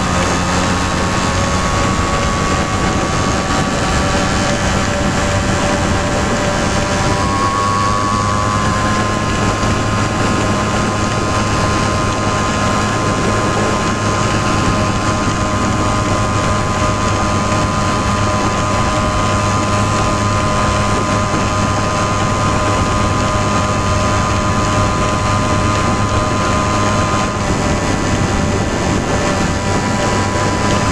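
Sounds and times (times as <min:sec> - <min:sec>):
two-stroke engine running: 0:00.0 - 0:30.9.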